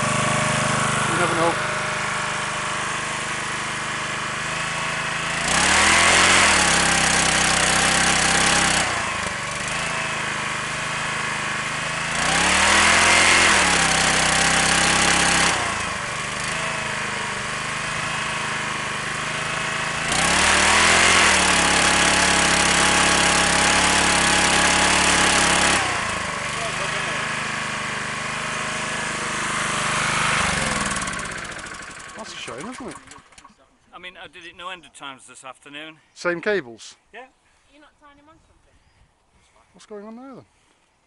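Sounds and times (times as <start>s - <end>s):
electric machine running: 0.0s - 33.5s
petrol generator running: 0.0s - 33.7s.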